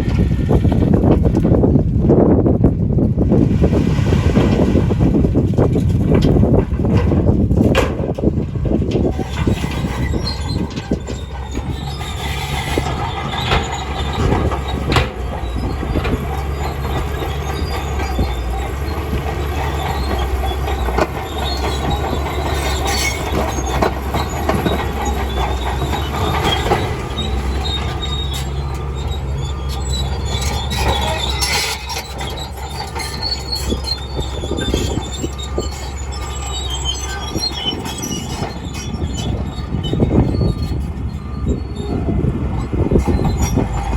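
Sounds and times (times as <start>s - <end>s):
bulldozer diesel engine drone: 0.0s - 43.9s
steel tracks squealing and clanking: 4.4s - 43.9s.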